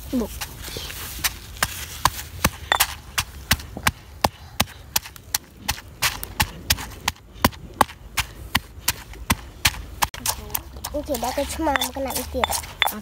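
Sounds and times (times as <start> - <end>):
pestle pounding in stone mortar: 2.4 - 13.0.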